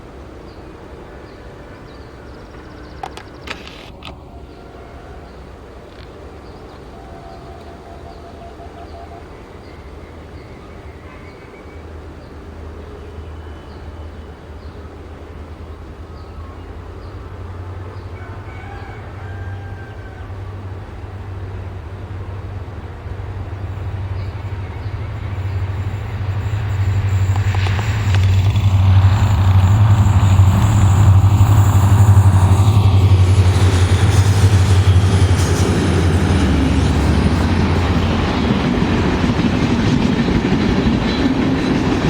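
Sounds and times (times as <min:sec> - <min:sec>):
diesel locomotive engine drone: 0:00.0 - 0:42.0.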